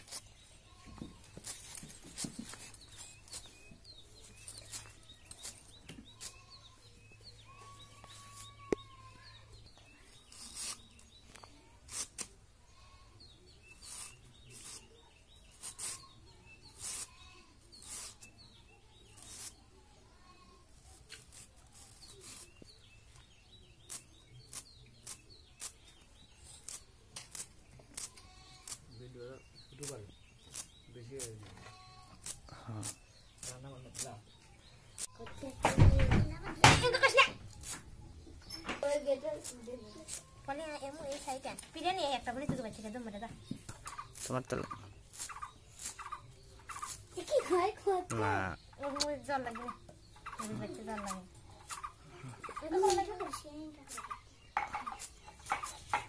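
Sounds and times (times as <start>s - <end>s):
faint bird chirps: 0.0s - 56.0s.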